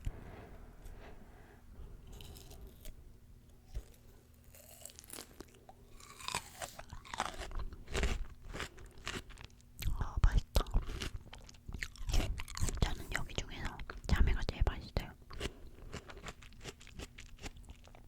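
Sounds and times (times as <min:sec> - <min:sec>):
person chewing crunchy fruit: 0:02.0 - 0:14.1, 0:15.0 - 0:18.0.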